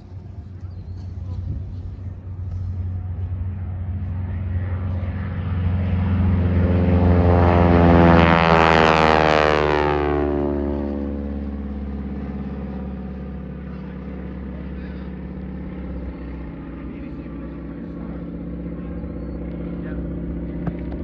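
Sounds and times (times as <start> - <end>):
biplane engine and propeller: 0.0 - 21.0.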